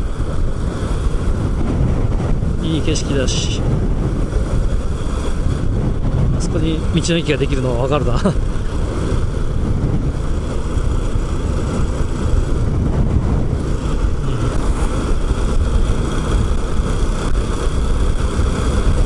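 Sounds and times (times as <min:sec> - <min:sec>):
motorcycle engine running: 0:00.0 - 0:19.0
wind rush on microphone: 0:00.0 - 0:19.0.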